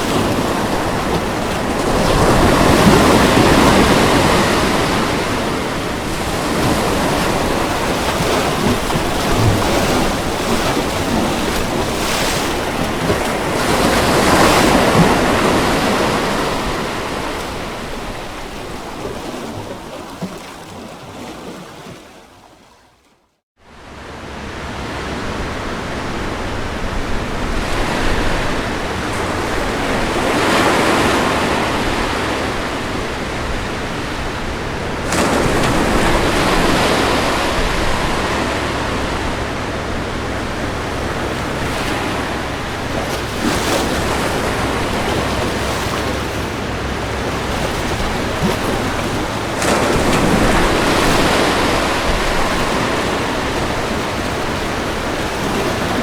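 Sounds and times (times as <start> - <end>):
ocean surf breaking on beach: 0.0 - 22.4, 23.7 - 56.0.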